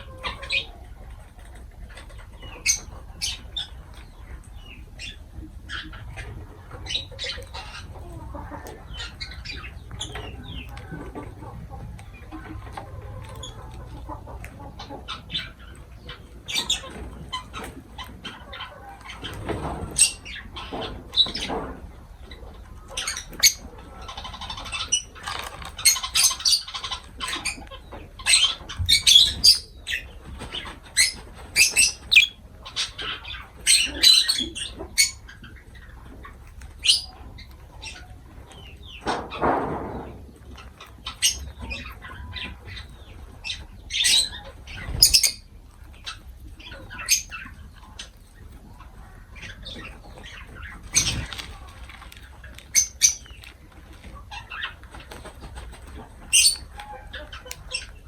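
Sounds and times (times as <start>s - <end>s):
lovebirds chirping and shrieking: 0.0s - 58.0s.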